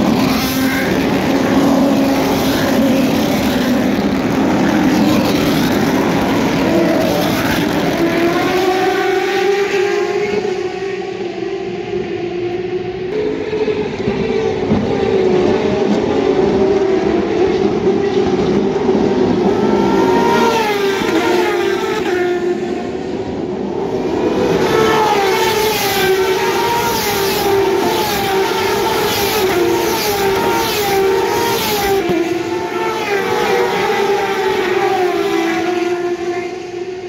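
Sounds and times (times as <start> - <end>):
race cars passing at speed: 0.0 - 37.0.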